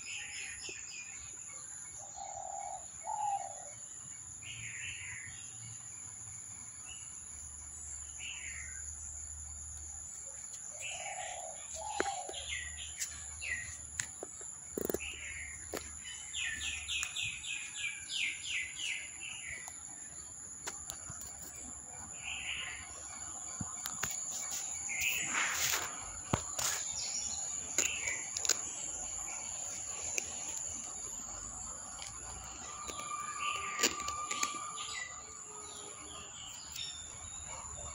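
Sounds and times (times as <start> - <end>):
garden birds chirping: 0.0 - 37.9.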